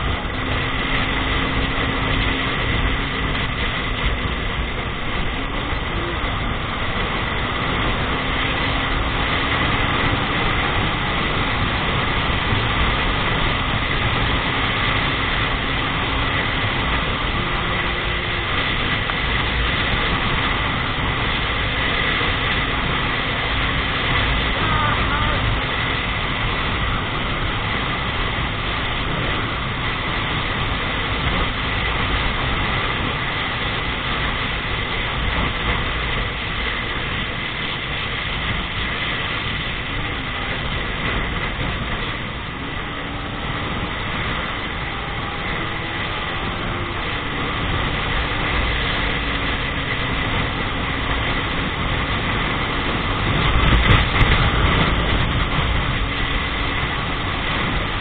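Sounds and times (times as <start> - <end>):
faint engine hum: 0.0 - 58.0
thin steady whine: 0.0 - 58.0
vehicle jolt: 0.0 - 58.0
wind and road noise: 0.0 - 58.0.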